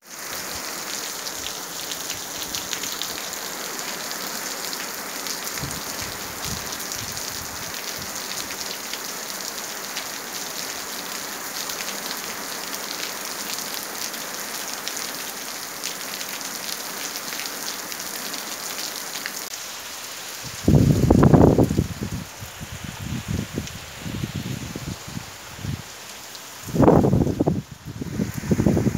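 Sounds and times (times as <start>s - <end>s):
heavy rain on stone and leaves: 0.0s - 28.9s.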